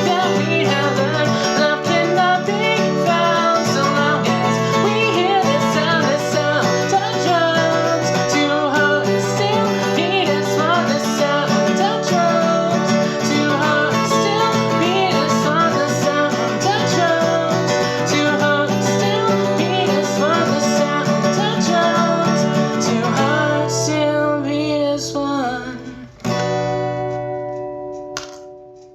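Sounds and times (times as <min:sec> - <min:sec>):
acoustic guitar playing: 0:00.0 - 0:28.9.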